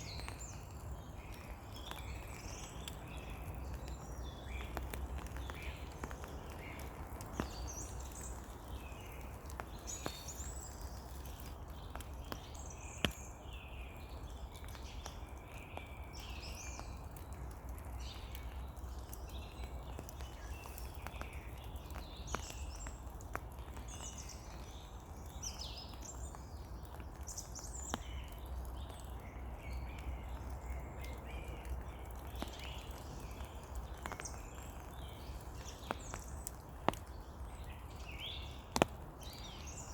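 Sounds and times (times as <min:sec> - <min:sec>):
birds singing: 0:00.0 - 0:39.9
rain falling: 0:00.0 - 0:39.9
sharp drip ticks: 0:00.0 - 0:39.9.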